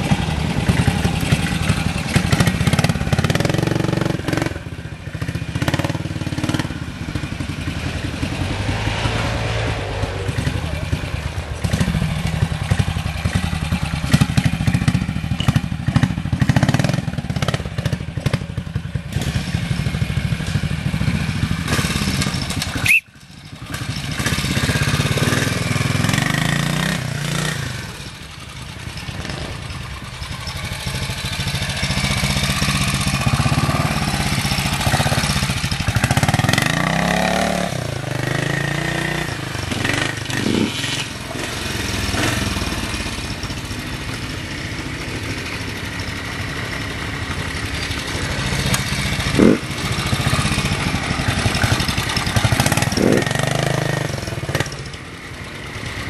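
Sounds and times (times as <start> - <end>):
motorcycle engines at low revs: 0.0 - 56.0.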